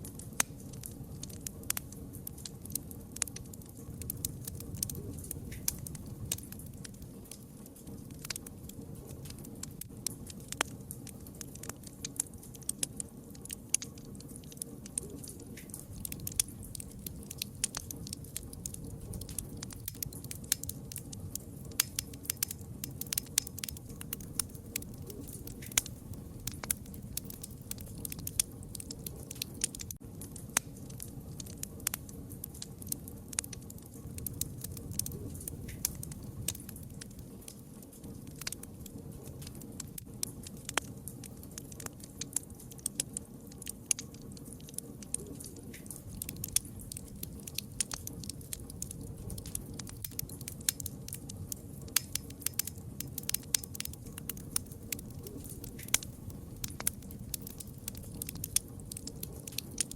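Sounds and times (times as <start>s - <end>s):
low rush of flame: 0.0s - 59.9s
wood fire crackling and popping: 0.0s - 59.9s.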